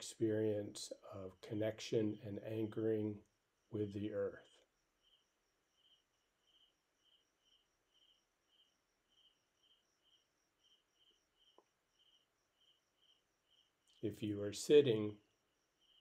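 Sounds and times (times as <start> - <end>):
cricket chirping: 1.2 - 16.0.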